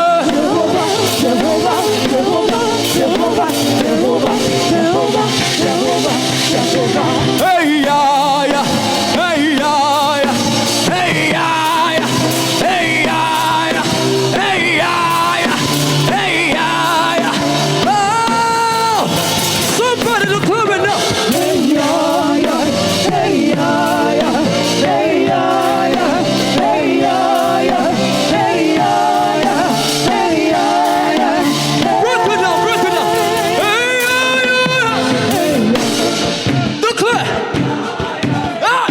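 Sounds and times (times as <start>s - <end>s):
band with drums: 0.0s - 38.9s
person singing with vibrato: 0.0s - 38.9s.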